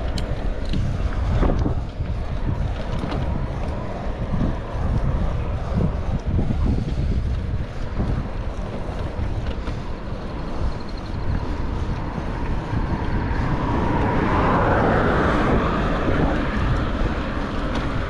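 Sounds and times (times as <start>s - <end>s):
car passing: 0.0s - 18.0s
wind buffeting microphone: 0.0s - 18.0s.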